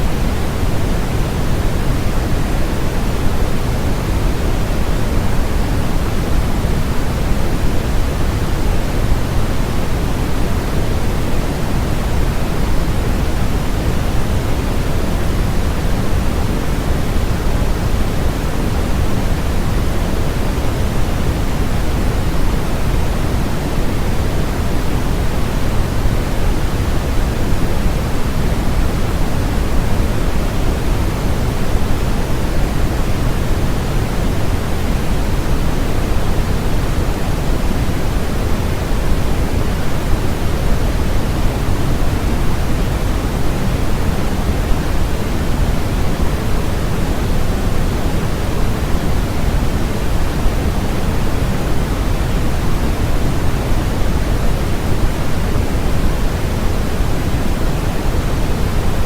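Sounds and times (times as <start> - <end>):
steady generated noise hiss: 0.0 - 59.0.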